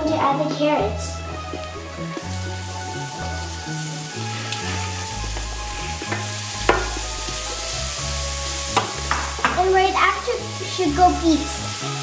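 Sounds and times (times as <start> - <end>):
background music with bass line: 0.0 - 12.0
vegetables sizzling in oil: 1.2 - 12.0.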